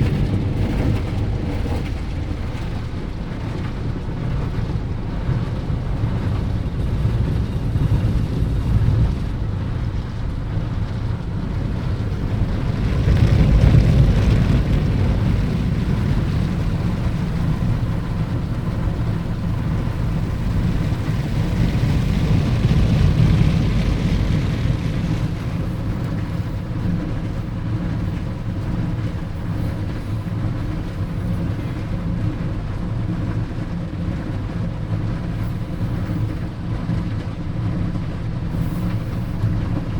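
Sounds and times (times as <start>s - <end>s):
car wash machinery rumbling: 0.0s - 39.9s.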